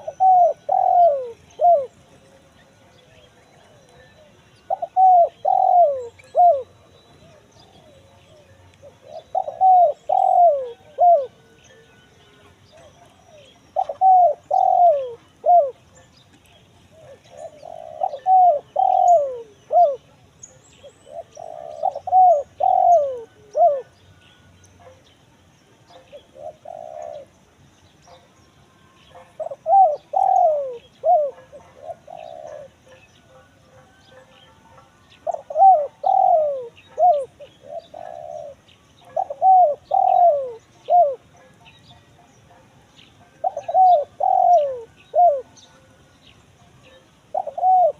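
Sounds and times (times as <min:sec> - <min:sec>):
dove cooing: 0:00.0 - 0:25.1, 0:25.8 - 0:27.5, 0:28.9 - 0:46.1, 0:46.7 - 0:47.9.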